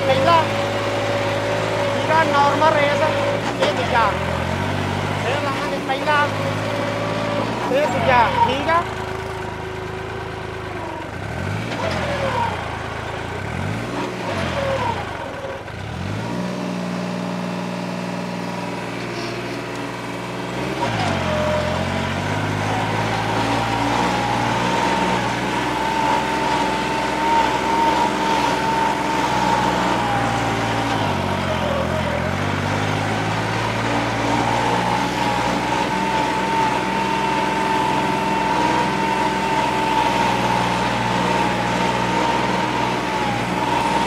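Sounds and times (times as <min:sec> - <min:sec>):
tractor diesel engine revving: 0:00.0 - 0:44.0.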